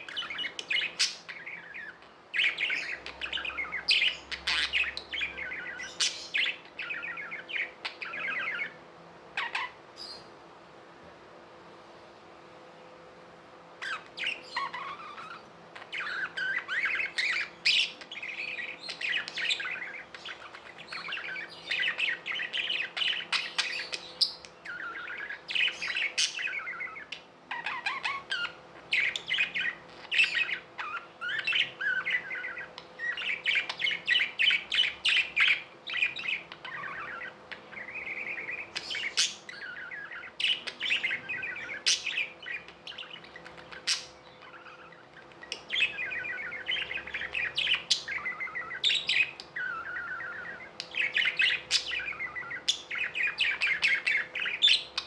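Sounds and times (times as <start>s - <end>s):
budgerigars warbling and chattering: 0.0s - 10.4s, 13.8s - 55.0s.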